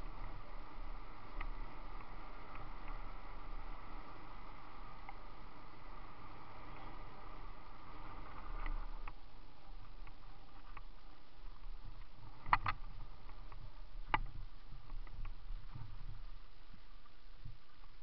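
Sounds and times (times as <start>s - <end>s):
bicycle rolling on rough trail: 0.0s - 18.0s.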